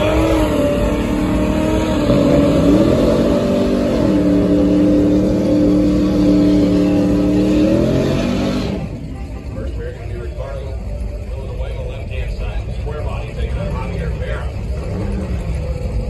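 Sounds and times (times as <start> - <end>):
tires spinning: 0.0 - 16.0
truck engine revving: 0.0 - 16.0.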